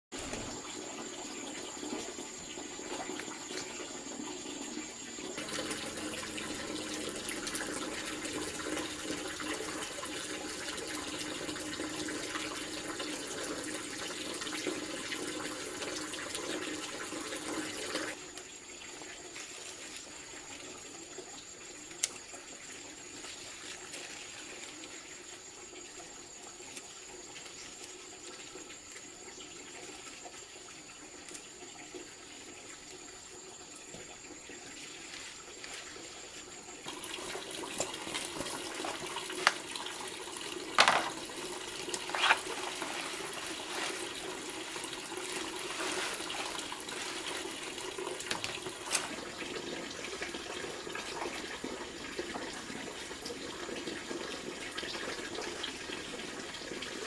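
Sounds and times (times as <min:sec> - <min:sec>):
water running: 0:00.1 - 0:57.0.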